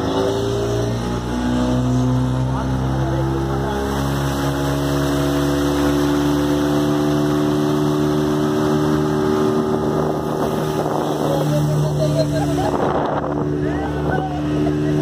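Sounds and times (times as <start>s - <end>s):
rush of water and wind: 0.0s - 15.0s
speedboat engine running: 0.0s - 15.0s.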